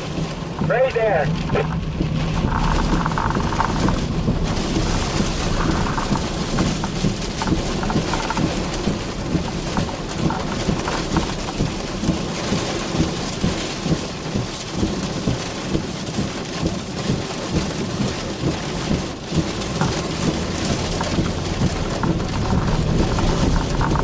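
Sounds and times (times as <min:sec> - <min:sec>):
heavy rain on a car: 0:00.0 - 0:24.0
thunder rumbling: 0:00.0 - 0:24.0.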